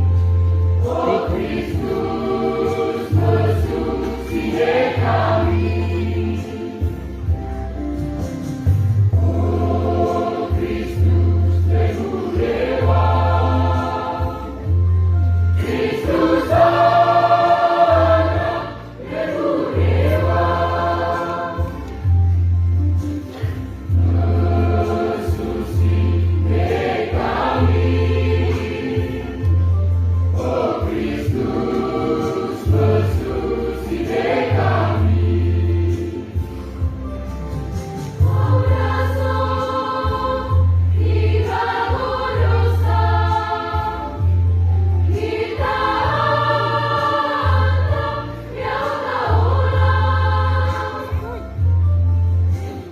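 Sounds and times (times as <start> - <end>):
choir singing in harmony: 0.0 - 52.9.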